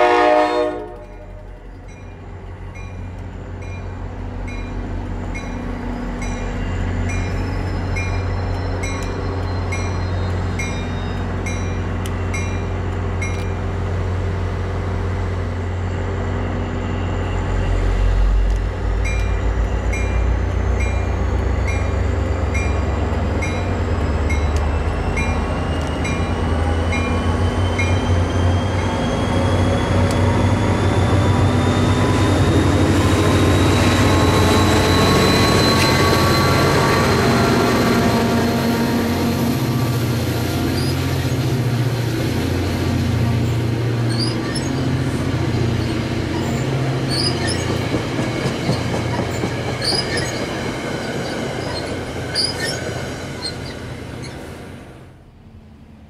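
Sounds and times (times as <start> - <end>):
diesel locomotive humming: 0.0 - 56.0
train wheel squeals: 4.5 - 13.6, 15.5 - 18.4, 19.0 - 41.6, 43.4 - 54.8.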